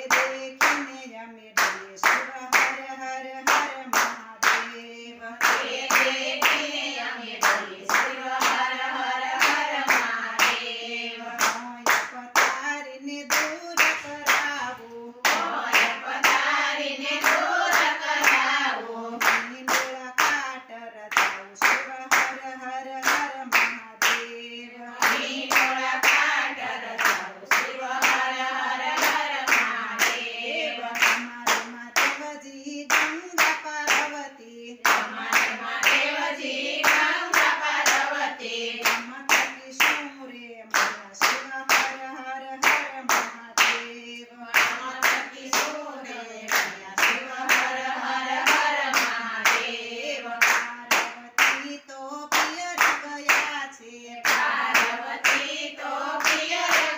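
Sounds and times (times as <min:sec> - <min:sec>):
hands clapping on a beat: 0:00.0 - 0:56.9
women singing in unison: 0:00.0 - 0:56.9.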